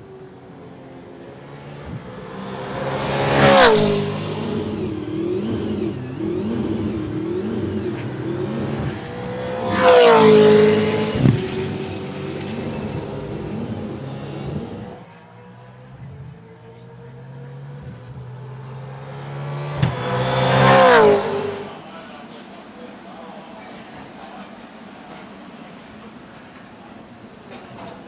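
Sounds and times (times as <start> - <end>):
distant race car engines: 0.0 - 28.0
race cars passing at speed: 0.0 - 28.0.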